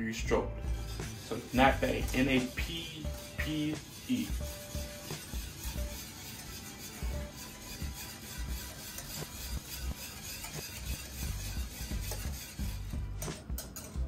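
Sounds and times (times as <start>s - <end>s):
whisk scraping saucepan: 0.1s - 14.0s
whisk wires clicking on pan: 0.8s - 14.0s.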